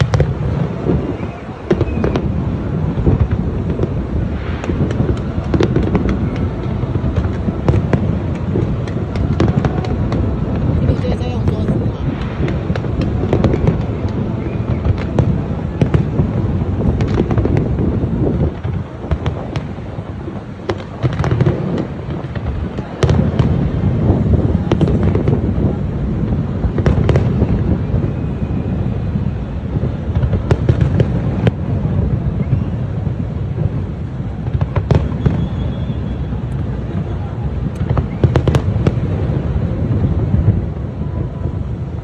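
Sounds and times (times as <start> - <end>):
fireworks cracks and pops: 0.0 - 42.0
fireworks rumble: 0.0 - 42.0.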